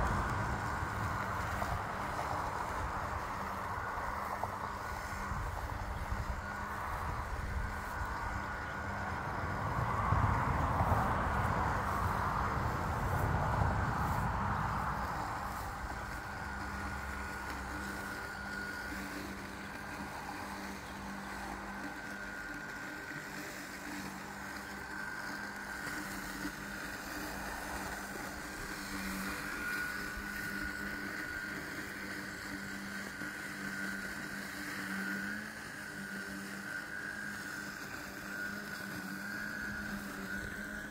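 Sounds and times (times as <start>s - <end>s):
robotic lawn mower motor whine: 0.0s - 40.9s.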